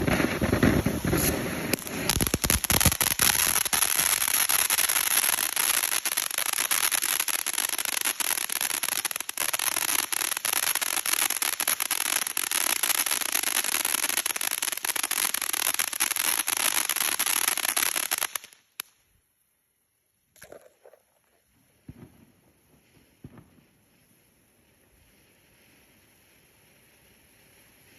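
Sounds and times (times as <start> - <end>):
firework fountain hissing and crackling: 0.0 - 19.0, 20.4 - 27.9.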